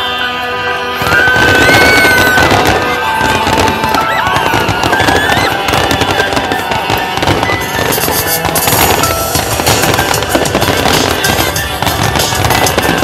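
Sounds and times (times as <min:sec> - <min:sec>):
music with gliding tones: 0:00.0 - 0:13.0
fireworks crackling: 0:01.0 - 0:13.0.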